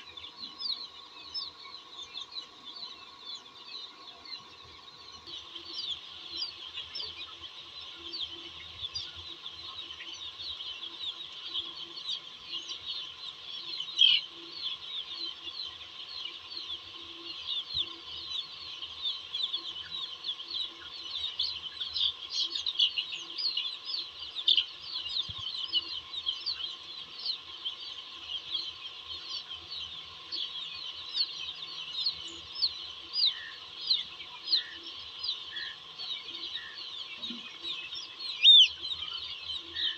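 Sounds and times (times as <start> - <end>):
chicks peeping: 0.0 - 39.9
faint steady hum: 0.0 - 39.9.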